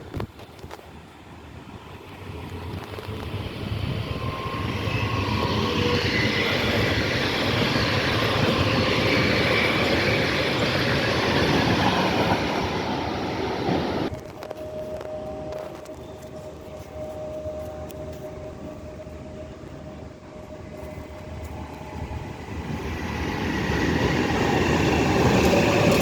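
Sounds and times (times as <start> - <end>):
train rolling on rails: 0.0 - 26.0.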